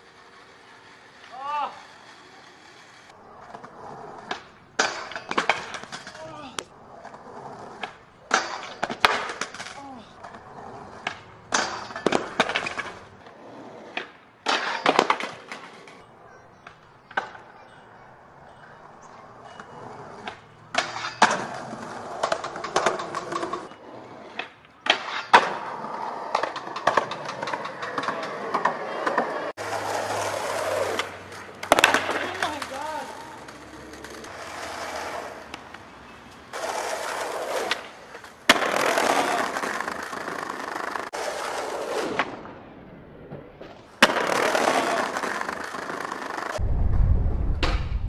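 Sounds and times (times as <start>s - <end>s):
skateboard clacks: 0.0s - 42.5s, 43.2s - 46.6s
skateboard scraping: 0.0s - 46.7s
skateboard wheels rolling on concrete: 0.0s - 48.0s.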